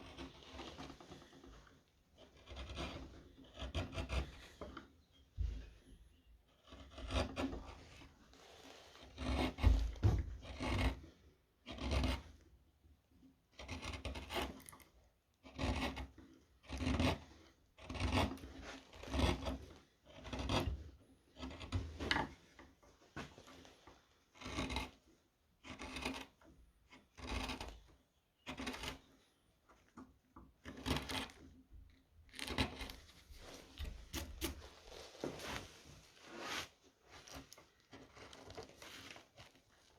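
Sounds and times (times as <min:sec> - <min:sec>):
chisel scraping wood: 0:00.0 - 0:12.4, 0:13.5 - 0:39.9.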